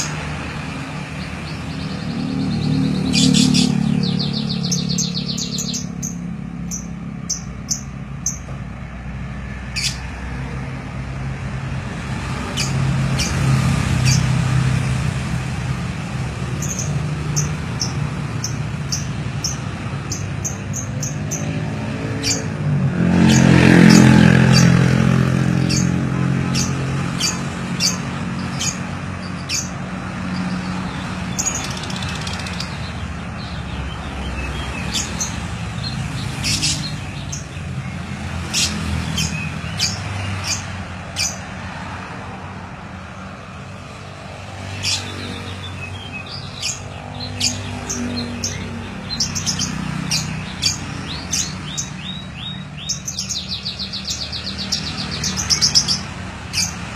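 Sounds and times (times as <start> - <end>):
canary chirping: 0.0 - 8.5, 9.7 - 10.2, 12.2 - 15.1, 16.1 - 25.0, 25.6 - 41.5, 44.6 - 56.9
vehicle passing: 0.0 - 56.9.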